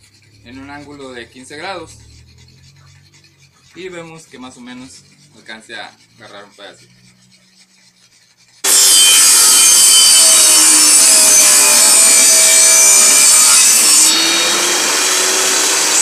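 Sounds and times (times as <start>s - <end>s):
table saw cutting wood: 0.0s - 16.0s.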